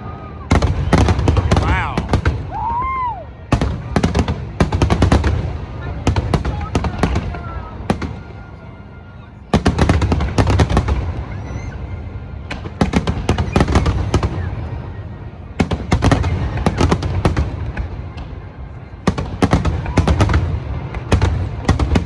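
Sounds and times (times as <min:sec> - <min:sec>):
fireworks bursting with sharp bangs: 0:00.4 - 0:08.6, 0:09.5 - 0:22.0.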